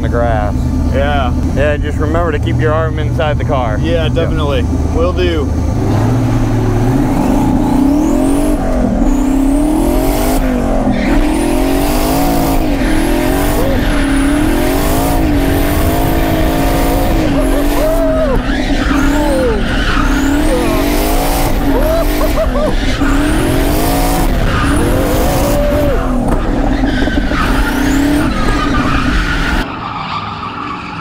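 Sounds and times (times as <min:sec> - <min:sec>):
car engine revving: 0:00.0 - 0:30.9
tire squeal: 0:05.8 - 0:31.0.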